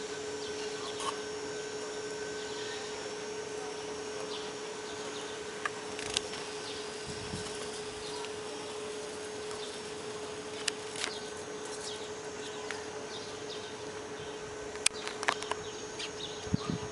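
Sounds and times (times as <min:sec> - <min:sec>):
faint constant hum: 0:00.0 - 0:16.9
steady hiss: 0:00.0 - 0:16.9.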